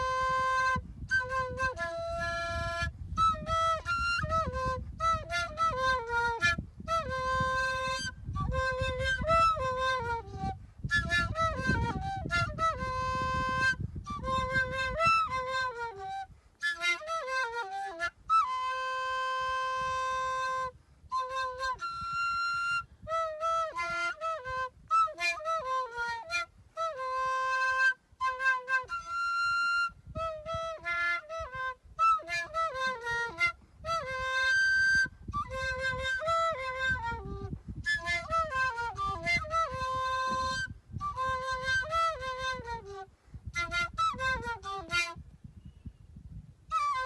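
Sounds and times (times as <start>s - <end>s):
flute solo melody: 0.0s - 47.0s.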